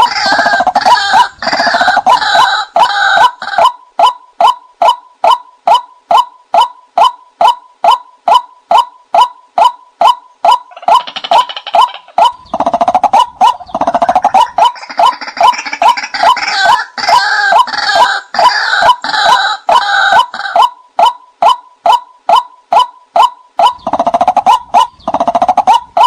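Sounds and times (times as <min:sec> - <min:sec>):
raucous chorus of bird calls: 0:00.0 - 0:26.0
short croaking bird notes: 0:00.0 - 0:26.0.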